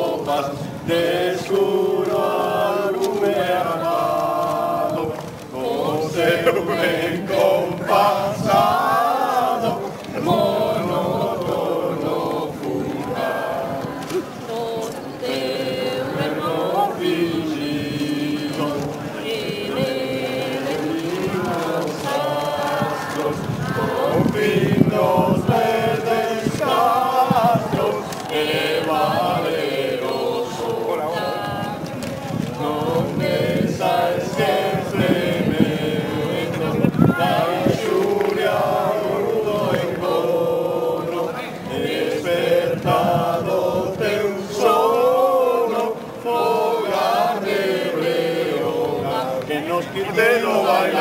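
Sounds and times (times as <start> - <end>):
crowd singing in unison: 0.0 - 51.0.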